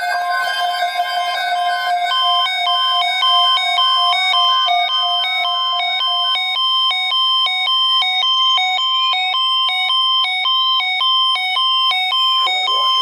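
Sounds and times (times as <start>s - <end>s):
siren-like rising tone: 0.0s - 13.0s
two-tone pulsing beeping: 0.0s - 13.0s.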